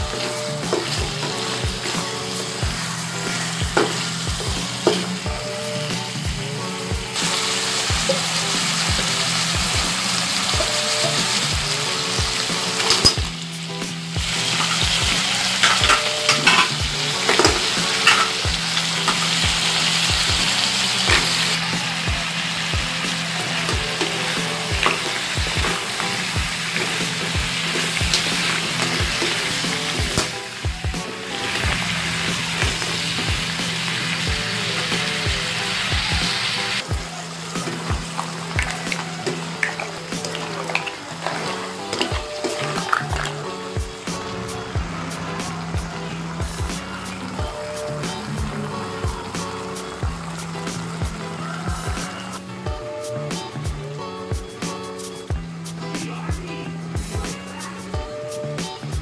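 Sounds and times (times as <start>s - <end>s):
seafood sizzling in hot oil: 0.0s - 52.4s
utensil scraping wok: 0.0s - 52.4s.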